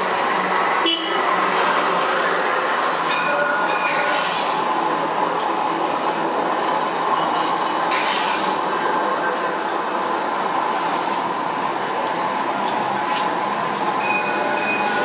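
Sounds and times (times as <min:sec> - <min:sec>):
tram hissing: 0:00.0 - 0:15.0
tram wheels rolling on rails: 0:00.0 - 0:15.0.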